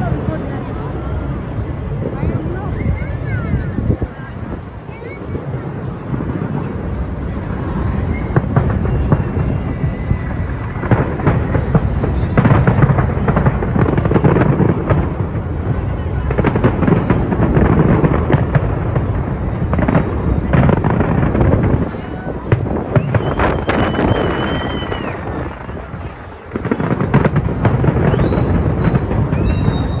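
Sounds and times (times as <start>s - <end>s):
fireworks bursting: 0.0s - 30.0s
fireworks crackling: 0.0s - 30.0s.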